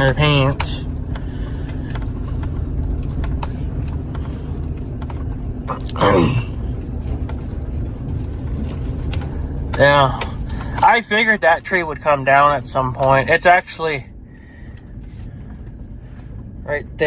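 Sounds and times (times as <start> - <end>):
light ticks and rattles: 0.0 - 5.9, 6.5 - 17.0
vehicle rumble from inside: 0.0 - 17.0.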